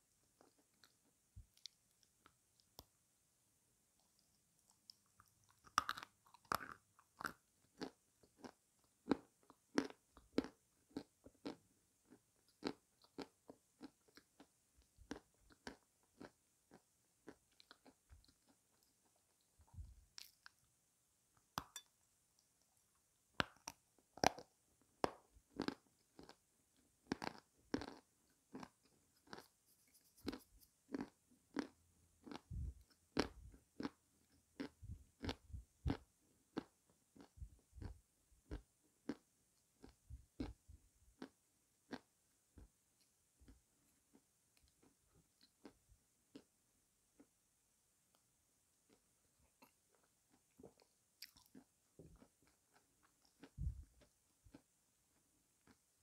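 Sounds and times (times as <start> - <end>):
crunching and chewing: 4.0 - 20.7, 23.4 - 42.7, 43.4 - 46.5, 48.8 - 55.9.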